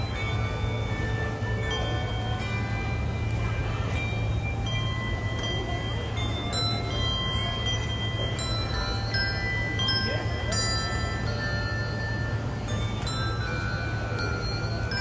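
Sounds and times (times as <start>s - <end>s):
handbells playing a carol: 0.0s - 15.0s.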